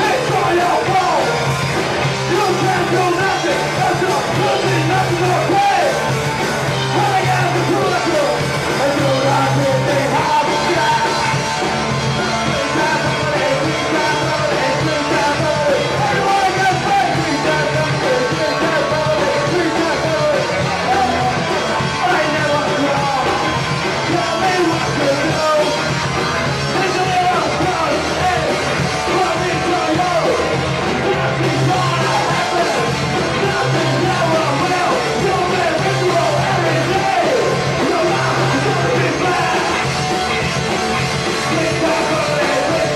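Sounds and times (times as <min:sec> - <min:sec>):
drum kit: 0:00.0 - 0:42.9
punk band playing live: 0:00.0 - 0:42.9.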